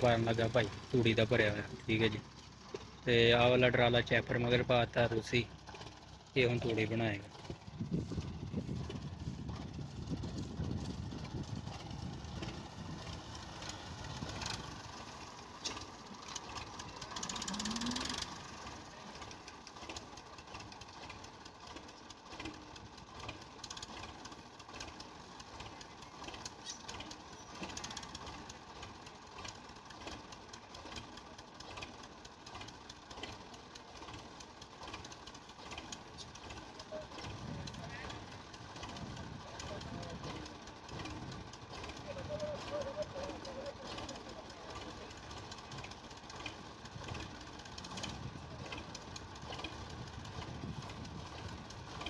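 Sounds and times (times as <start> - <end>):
straw chopper mechanical whine: 0.0 - 52.0
tractor engine running: 0.0 - 52.0.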